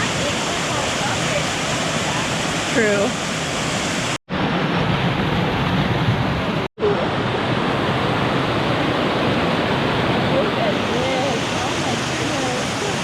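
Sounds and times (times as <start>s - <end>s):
river rushing over rapids: 0.0s - 13.0s.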